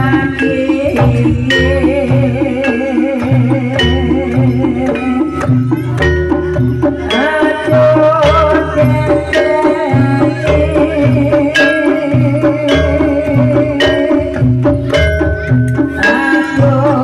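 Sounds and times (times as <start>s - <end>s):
drums beating low pulse: 0.0s - 17.0s
ringing metallophone tones: 0.0s - 17.0s
wavering high melody: 0.0s - 17.0s.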